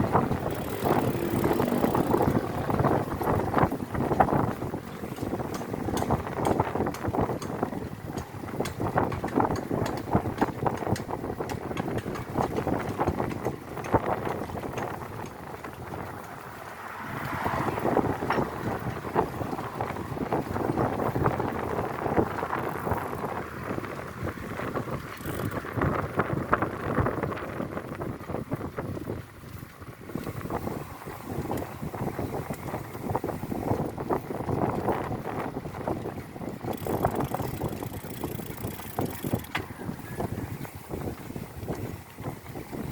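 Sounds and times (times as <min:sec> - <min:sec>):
bike rattling clicks and knocks: 0:00.0 - 0:42.9
wind buffeting microphone: 0:00.0 - 0:42.9.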